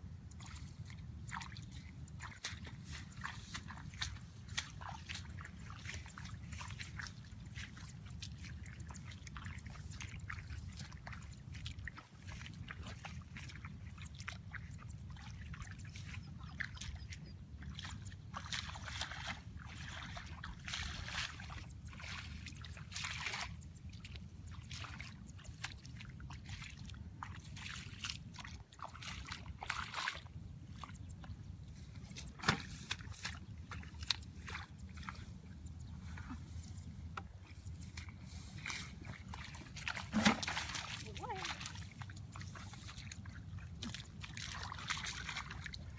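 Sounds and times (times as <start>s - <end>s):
water sloshing and splashing: 0.3s - 45.9s.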